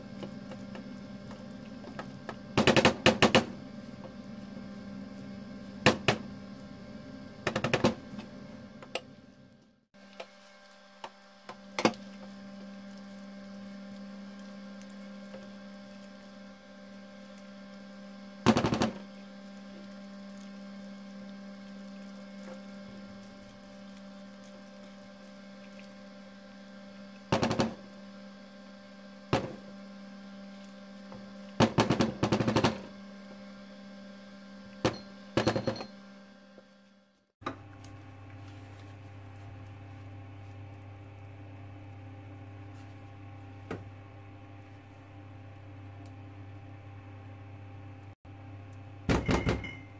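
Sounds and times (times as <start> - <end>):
low electrical hum: 0.0 - 49.9.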